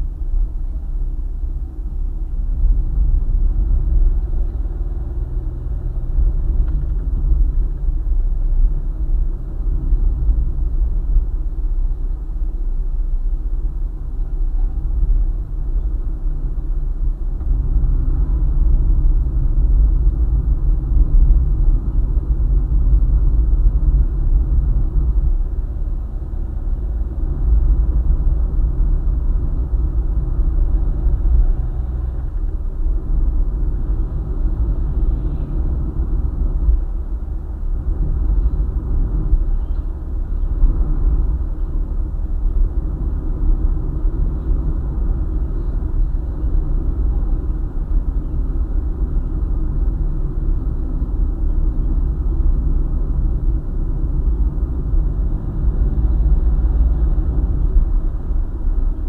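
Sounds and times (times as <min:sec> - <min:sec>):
car driving on highway: 0:00.0 - 0:59.0.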